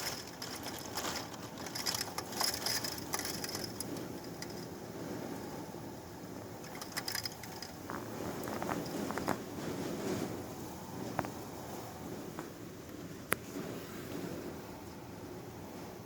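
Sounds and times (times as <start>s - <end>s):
hurricane wind and rain: 0.0s - 16.0s.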